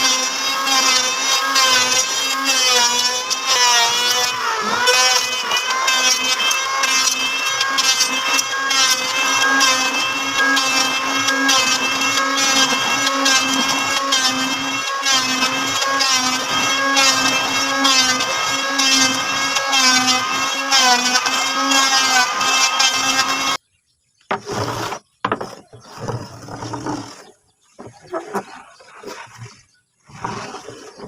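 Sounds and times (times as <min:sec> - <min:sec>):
electric wood planer cutting: 0:00.0 - 0:23.6, 0:24.3 - 0:27.3.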